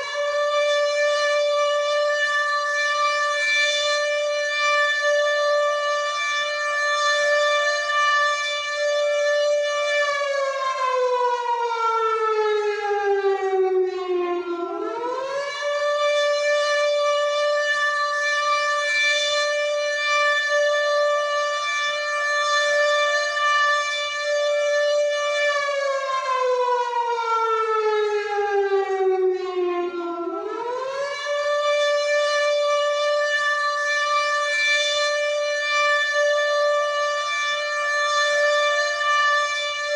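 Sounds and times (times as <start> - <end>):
air raid siren wailing: 0.0 - 39.9.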